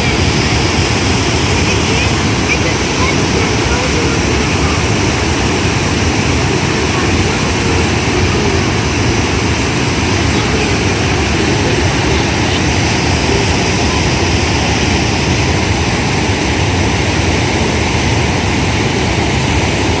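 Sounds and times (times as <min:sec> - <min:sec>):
rushing floodwater: 0:00.0 - 0:20.0.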